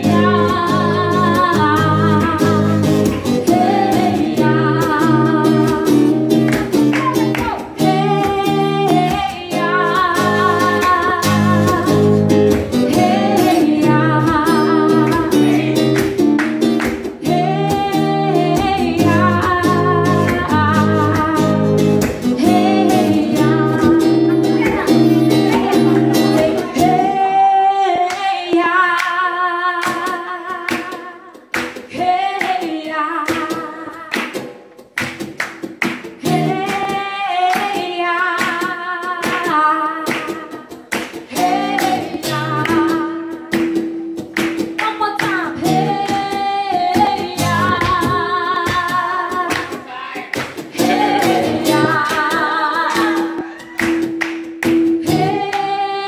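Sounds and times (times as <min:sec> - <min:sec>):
woman singing with vibrato: 0:00.0 - 0:16.2, 0:17.1 - 0:34.3, 0:36.2 - 0:43.7, 0:44.8 - 0:53.9, 0:55.0 - 0:56.0
hand claps: 0:02.2 - 0:04.2, 0:05.6 - 0:17.8, 0:20.1 - 0:21.2, 0:21.8 - 0:23.9, 0:28.0 - 0:55.8.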